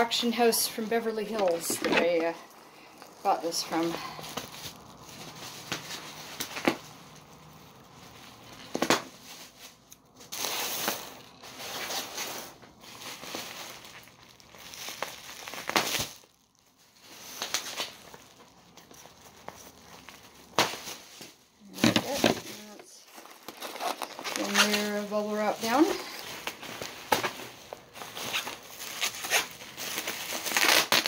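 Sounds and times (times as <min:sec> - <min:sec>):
bubble wrap crinkling: 0:00.0 - 0:31.0.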